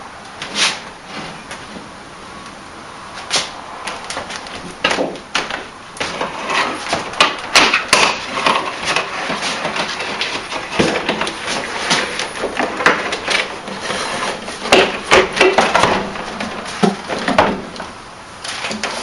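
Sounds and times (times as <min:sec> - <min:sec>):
wood knocking and scraping: 0:03.2 - 0:19.0.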